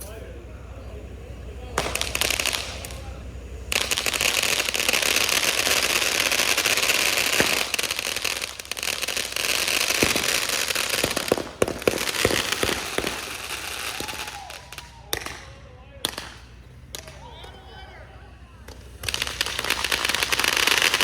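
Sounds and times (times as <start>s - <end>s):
fireworks crackling: 0.0s - 21.0s
fireworks bangs: 1.0s - 17.8s, 18.4s - 21.0s.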